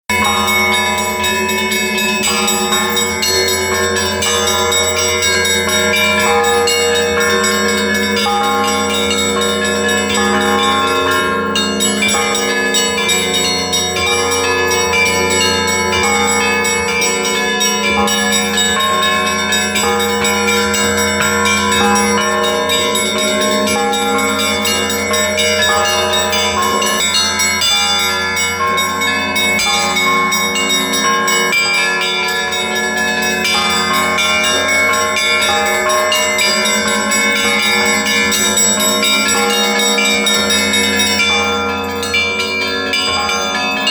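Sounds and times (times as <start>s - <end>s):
church bells ringing: 0.1s - 43.9s.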